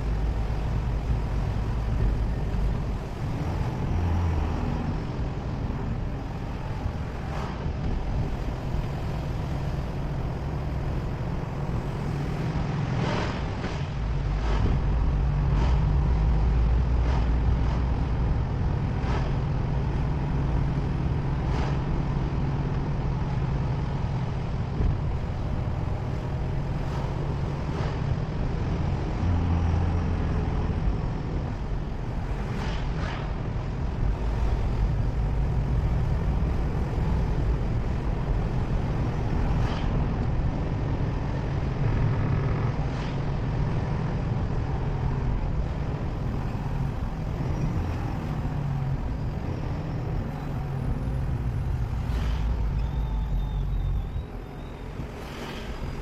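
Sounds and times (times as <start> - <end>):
car engine rumble: 0.0 - 56.0
road noise: 0.0 - 56.0.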